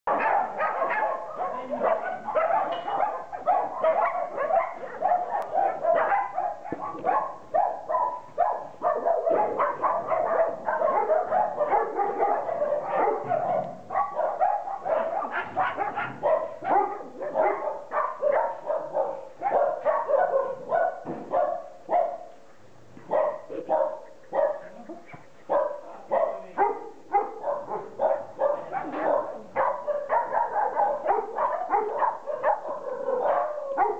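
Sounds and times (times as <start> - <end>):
many dogs barking: 0.1 - 33.9.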